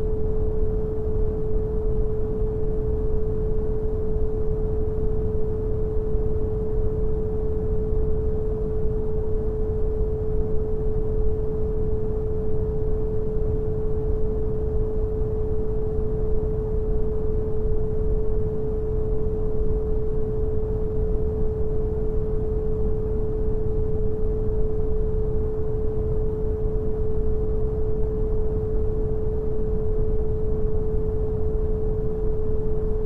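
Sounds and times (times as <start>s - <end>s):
pure sine tone: 0.0s - 33.0s.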